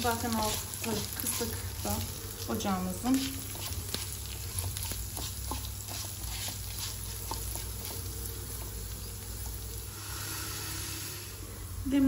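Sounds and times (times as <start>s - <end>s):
spatula scraping pan: 0.0s - 11.2s
light sizzle in pan: 0.0s - 12.0s.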